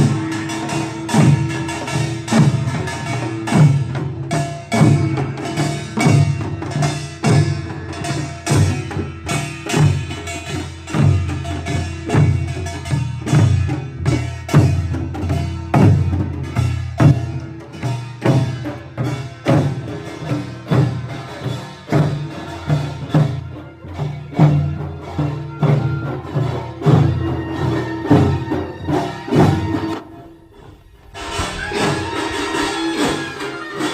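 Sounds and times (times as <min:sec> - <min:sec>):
percussion band drums and gongs: 0:00.0 - 0:33.9.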